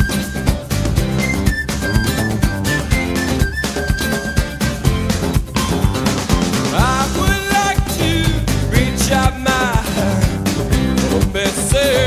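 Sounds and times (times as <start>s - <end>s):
song with vocal guitar and drums: 0.0s - 12.0s.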